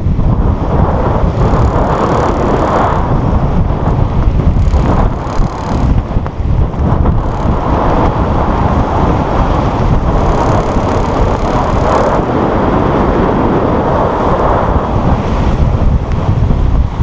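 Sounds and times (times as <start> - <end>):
water rushing along a hull: 0.0 - 17.0
wind buffeting microphone: 0.0 - 17.0.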